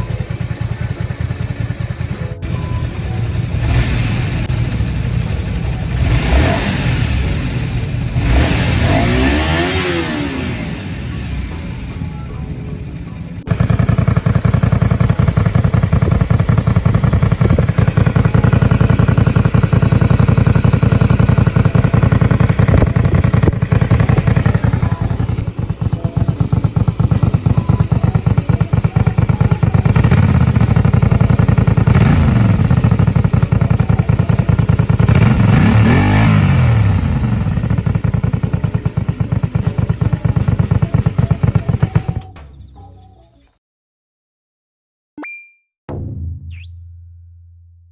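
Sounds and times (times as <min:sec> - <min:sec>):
motorcycle engine running loud: 0:00.0 - 0:42.2.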